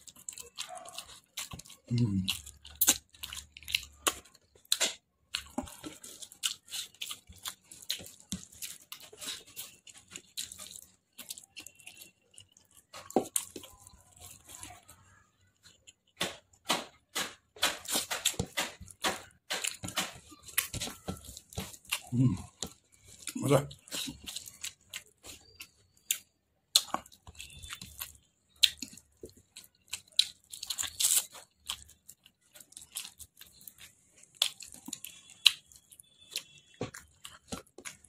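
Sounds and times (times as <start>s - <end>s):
wet chewing and lip-smacking: 0.0s - 17.0s, 17.6s - 38.0s.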